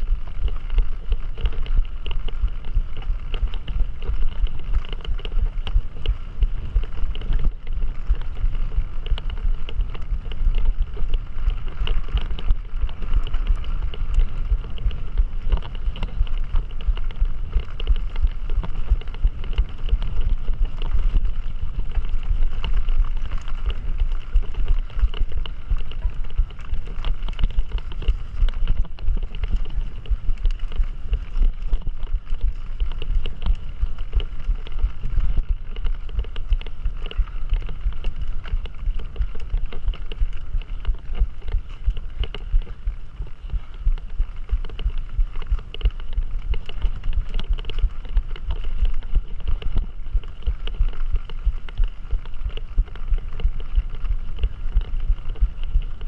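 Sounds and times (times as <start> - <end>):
steady rumble: 0.0 - 56.0
wind buffeting microphone: 0.0 - 56.0
bike rattles and knocks: 0.1 - 56.0.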